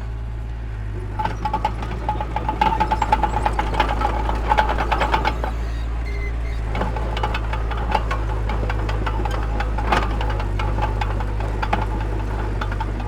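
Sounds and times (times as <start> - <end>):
diesel machinery rumbling: 0.6 - 13.0
metallic clatter with squeal: 1.0 - 13.0.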